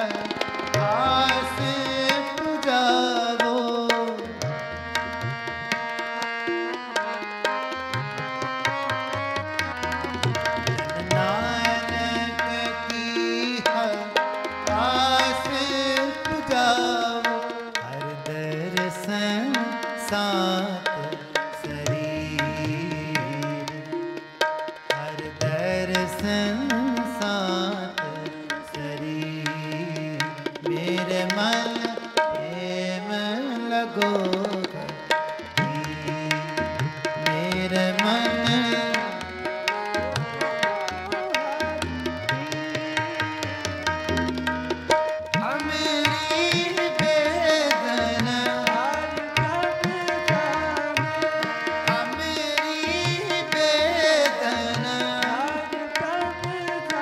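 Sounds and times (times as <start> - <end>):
man singing: 0.0 - 6.1, 6.9 - 57.0
harmonium melody: 0.0 - 57.0
tabla rhythm: 0.0 - 57.0.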